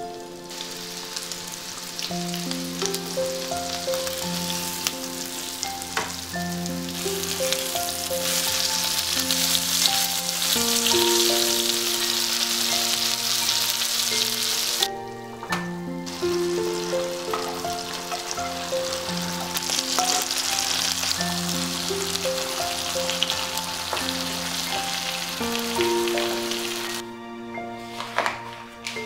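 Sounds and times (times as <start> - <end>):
gentle background music: 0.0 - 29.0
chicken sizzling in a pan: 0.2 - 14.9, 16.1 - 27.0.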